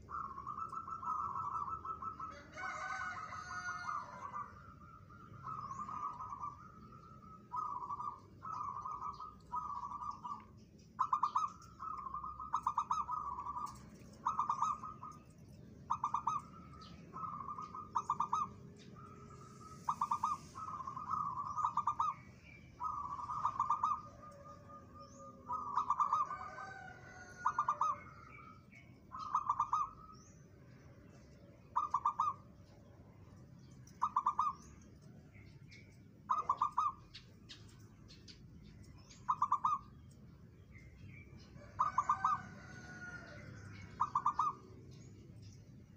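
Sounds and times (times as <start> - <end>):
dove cooing: 0.0 - 30.2, 31.6 - 32.6, 33.9 - 35.2, 36.2 - 37.6, 39.2 - 40.0, 41.5 - 45.0.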